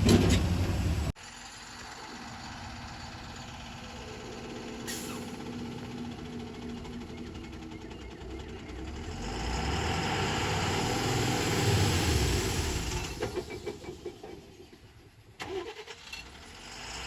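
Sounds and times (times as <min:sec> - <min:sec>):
heavy diesel engine running: 0:00.0 - 0:15.4.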